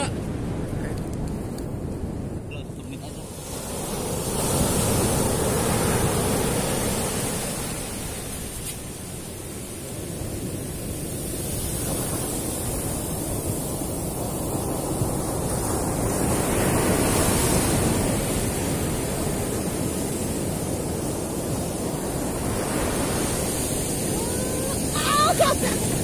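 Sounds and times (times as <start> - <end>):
ocean surf on beach: 0.0 - 26.0
wind on microphone: 0.0 - 26.0.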